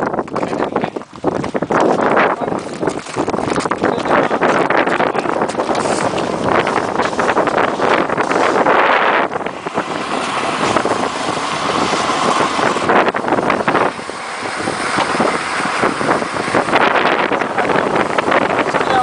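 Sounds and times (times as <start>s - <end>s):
ice boat runners rushing: 0.0s - 19.0s
wind buffeting microphone: 0.0s - 19.0s.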